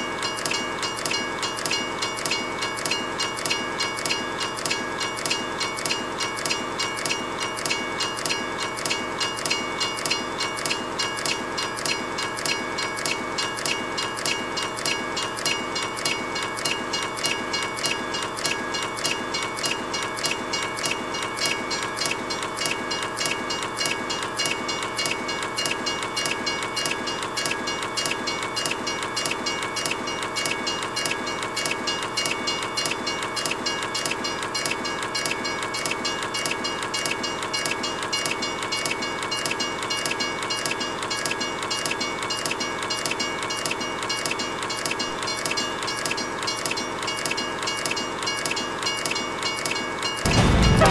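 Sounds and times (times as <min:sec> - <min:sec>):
high steady ringing tone: 0:00.0 - 0:50.9
train wheels clattering on rails: 0:00.0 - 0:50.9.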